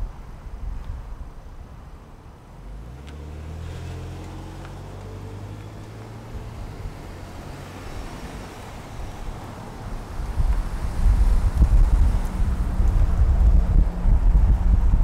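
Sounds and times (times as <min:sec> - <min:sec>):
vehicle engine passing by: 0:02.6 - 0:15.0.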